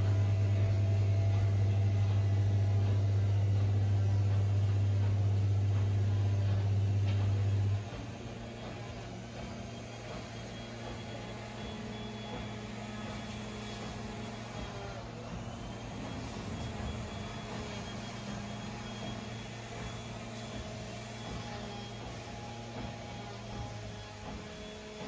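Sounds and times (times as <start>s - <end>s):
washing machine running quietly: 0.0s - 25.0s
washing machine spin hum: 0.0s - 25.0s.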